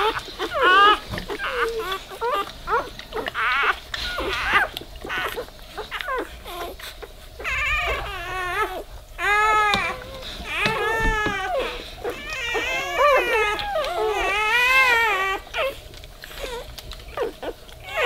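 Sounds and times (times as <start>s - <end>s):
puppies squeaking and crying: 0.0s - 18.0s.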